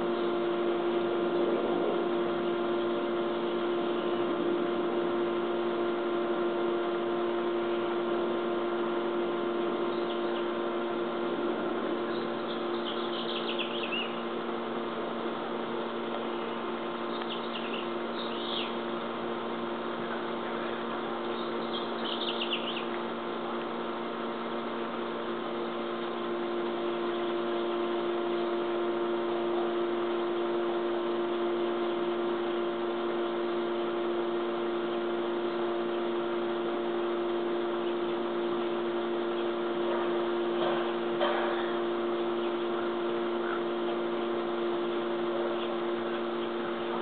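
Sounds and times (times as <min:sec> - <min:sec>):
steady hum: 0:00.0 - 0:47.0.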